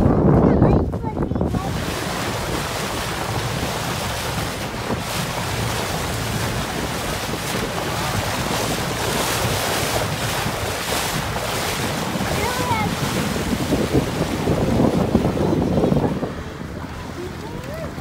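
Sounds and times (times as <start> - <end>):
wind buffeting microphone: 0.0 - 18.0
waves washing: 0.7 - 18.0.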